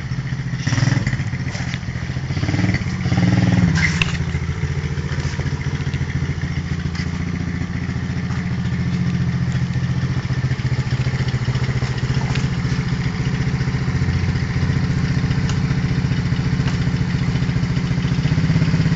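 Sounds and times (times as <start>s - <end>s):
small motorcycle engine running: 0.0s - 18.9s.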